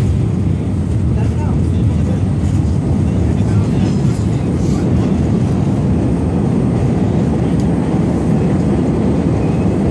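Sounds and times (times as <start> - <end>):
loud rumble of subway car on rails: 0.0 - 9.9.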